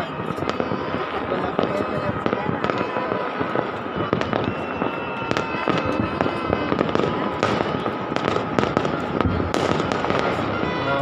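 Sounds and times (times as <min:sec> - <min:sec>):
distant fireworks bangs and crackles: 0:00.0 - 0:11.0
steady high tone: 0:00.0 - 0:11.0.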